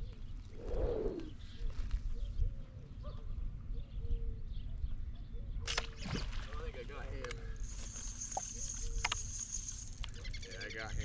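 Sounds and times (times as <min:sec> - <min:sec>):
bird calling with low notes: 0:00.0 - 0:06.8, 0:07.4 - 0:11.0.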